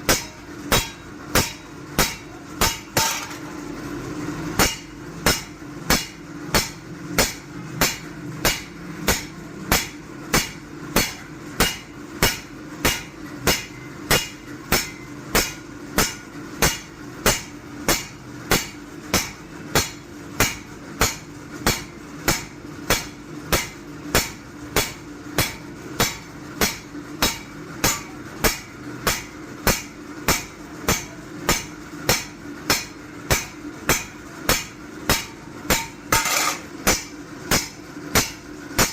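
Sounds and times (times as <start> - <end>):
hammer striking metal on anvil: 0.0 - 3.6, 4.5 - 38.9
steady low hum: 0.0 - 38.9.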